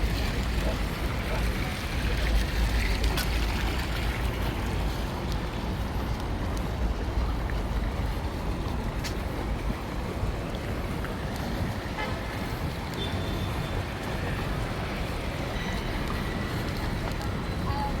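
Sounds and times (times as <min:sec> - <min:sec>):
outdoor city noise: 0:00.0 - 0:18.0.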